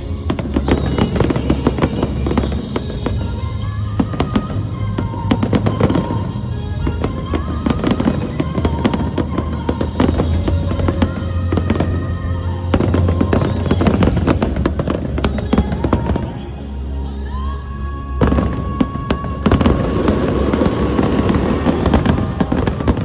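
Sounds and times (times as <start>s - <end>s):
fireworks bursting and crackling: 0.0s - 16.6s, 18.2s - 23.0s
orchestral music with heavy bass: 0.0s - 23.0s.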